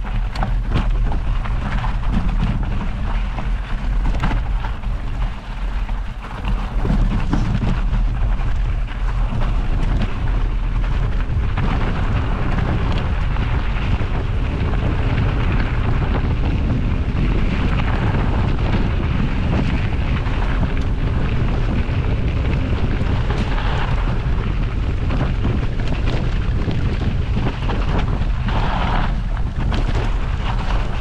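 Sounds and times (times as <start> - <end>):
tyres rolling over gravel: 0.0 - 31.0
wind rumble on microphone: 0.0 - 31.0.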